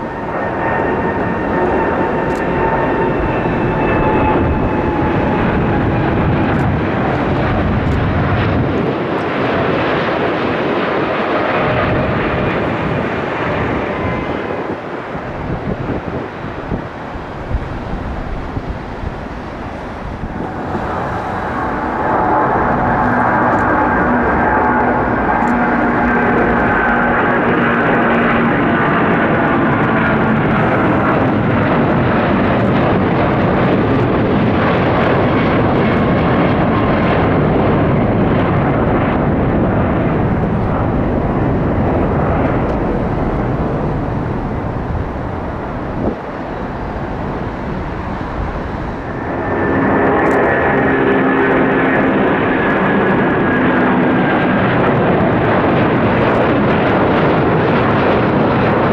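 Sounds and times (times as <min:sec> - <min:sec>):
jet engines roaring and whining: 0:00.0 - 0:58.9.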